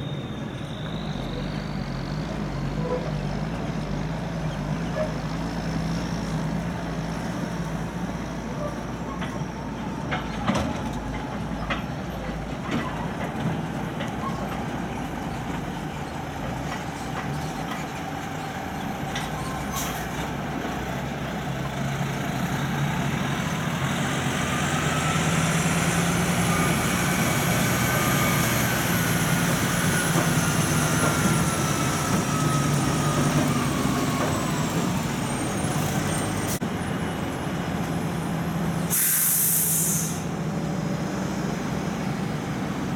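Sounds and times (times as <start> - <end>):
truck diesel engine: 0.0 - 42.9.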